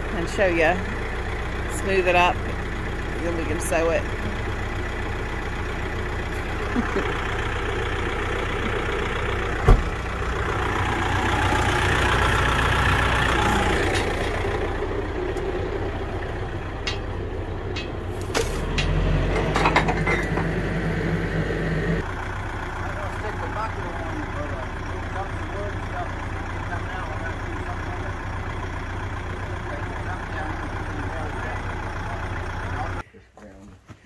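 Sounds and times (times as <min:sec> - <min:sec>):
tractor diesel engine idling: 0:00.0 - 0:33.6.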